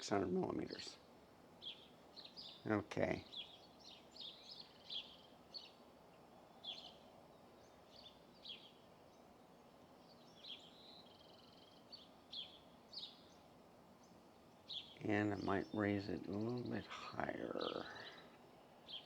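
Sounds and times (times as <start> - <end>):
faint outdoor background noise: 0.0 - 19.0
songbirds chirping: 0.0 - 19.0.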